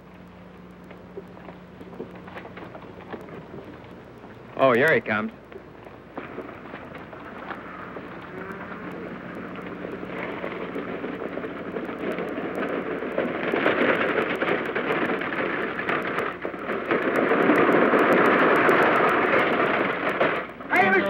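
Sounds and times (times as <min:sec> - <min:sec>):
horse hooves clattering: 0:00.0 - 0:21.0
wagon wheels rattling: 0:01.4 - 0:21.0.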